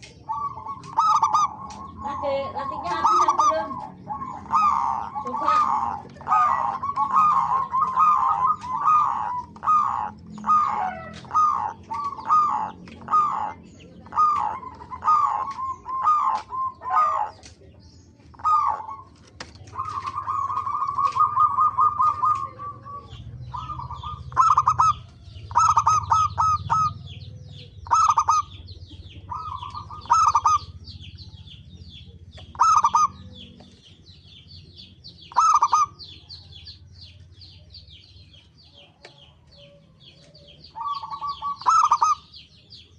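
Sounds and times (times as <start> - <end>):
doves cooing: 0.0 - 42.9
small birds chirping: 0.0 - 42.9.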